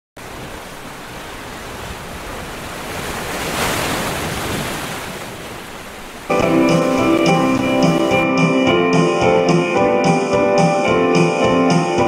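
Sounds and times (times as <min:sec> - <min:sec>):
ocean surf rushing: 0:00.2 - 0:12.0.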